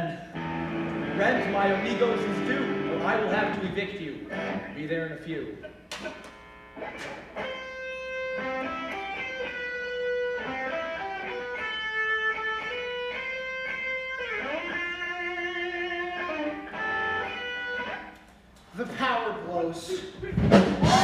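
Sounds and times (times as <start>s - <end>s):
electric guitar riff: 0.0s - 4.9s, 5.6s - 18.5s, 20.2s - 21.0s.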